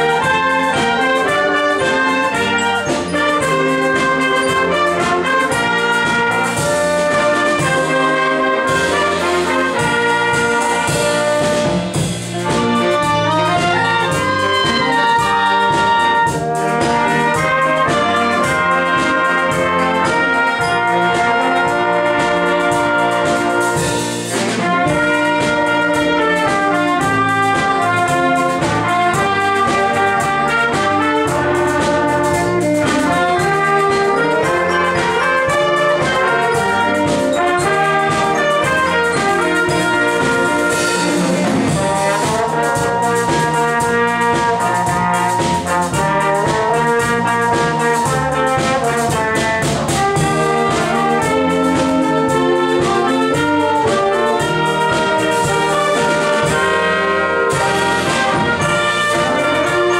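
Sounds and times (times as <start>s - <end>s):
wind band playing pop tune: 0.0s - 59.9s.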